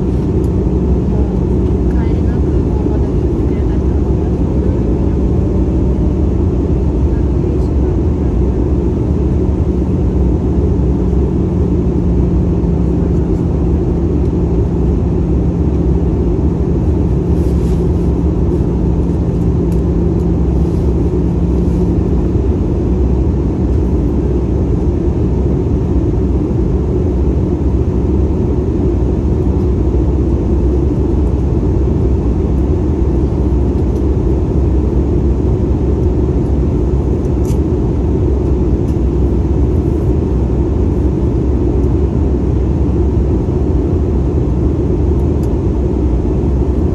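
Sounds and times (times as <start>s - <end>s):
airplane cabin rumble: 0.0s - 46.9s
steady hum: 0.0s - 46.9s.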